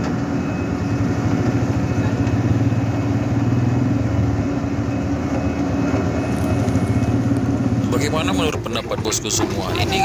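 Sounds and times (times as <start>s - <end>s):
motor vehicle engine running: 0.0s - 10.0s.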